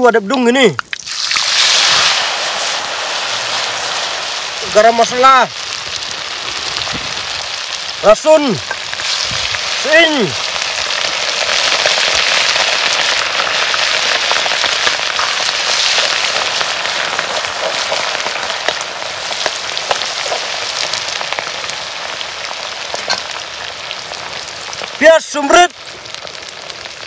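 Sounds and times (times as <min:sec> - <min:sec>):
spices sizzling in hot oil: 0:00.4 - 0:27.0.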